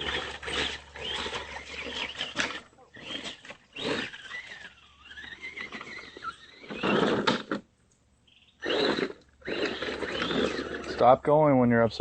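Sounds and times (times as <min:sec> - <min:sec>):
electric motor whining: 0:00.0 - 0:07.6, 0:08.4 - 0:11.1.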